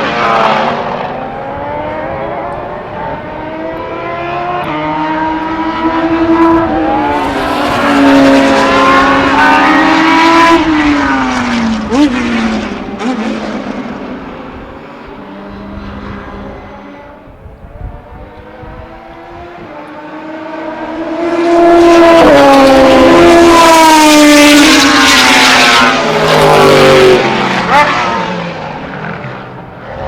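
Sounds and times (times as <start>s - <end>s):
racing car engine accelerating: 0.0s - 30.0s.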